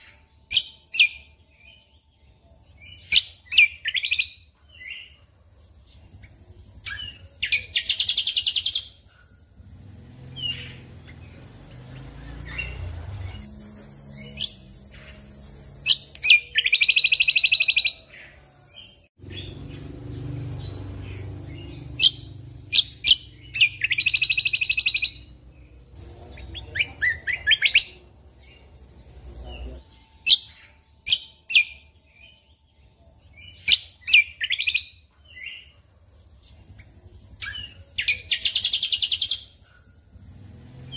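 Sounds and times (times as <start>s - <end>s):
bird chirps and buzzing trills: 0.0s - 40.9s.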